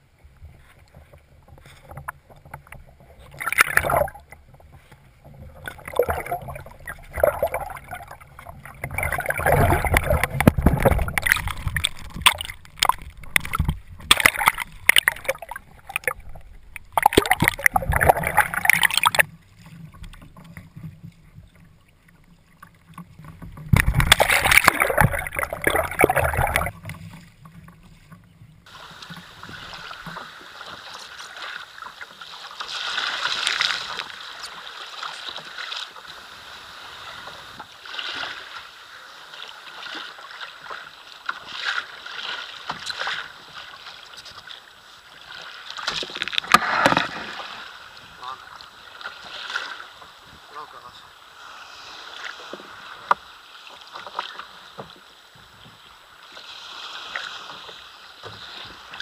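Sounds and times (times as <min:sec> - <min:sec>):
sea water splashing and gurgling: 0:00.0 - 0:59.0
wind and waves hissing: 0:00.0 - 0:59.0.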